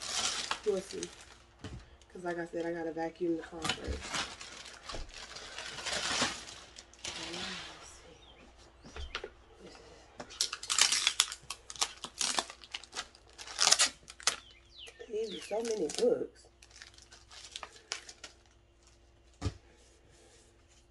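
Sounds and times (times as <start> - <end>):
plastic wrap crinkling: 0.0 - 8.0, 10.3 - 19.2
plastic packaging rustling: 0.0 - 8.4, 10.2 - 19.4.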